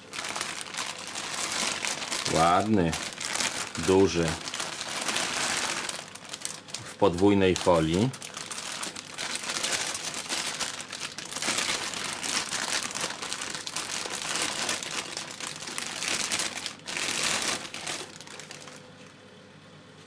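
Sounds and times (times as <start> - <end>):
plastic wrapping crinkling: 0.0 - 19.1.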